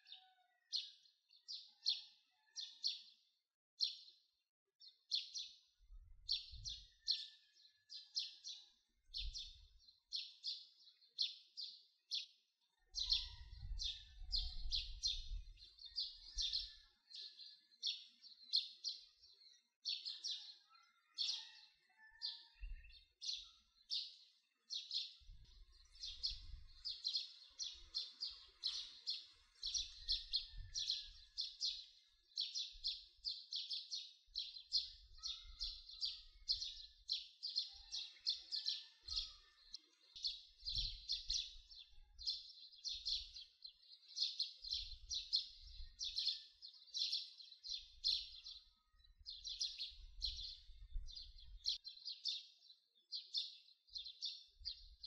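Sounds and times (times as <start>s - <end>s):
small birds chirping: 4.8s - 55.0s.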